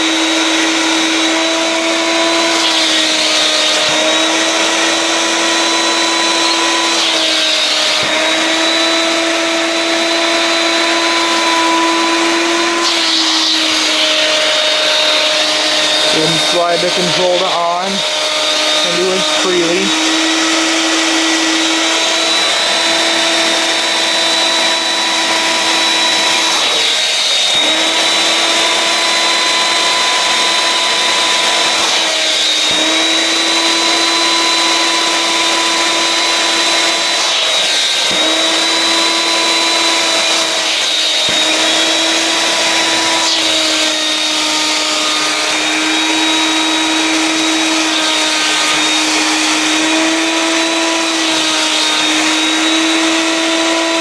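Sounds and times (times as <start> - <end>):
vacuum cleaner motor whining: 0.0 - 54.0.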